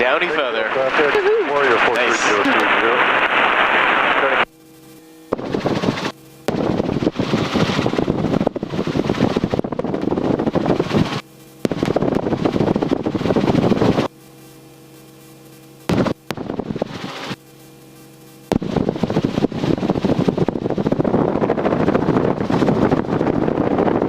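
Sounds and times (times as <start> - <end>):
helicopter engine drone: 0.0 - 24.0
helicopter rotor beating: 0.0 - 24.0.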